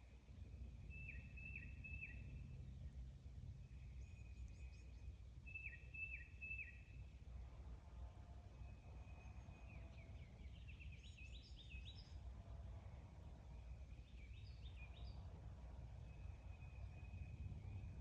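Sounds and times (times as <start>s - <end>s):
faint birdsong: 0.0s - 18.0s
low steady rumble: 0.0s - 18.0s.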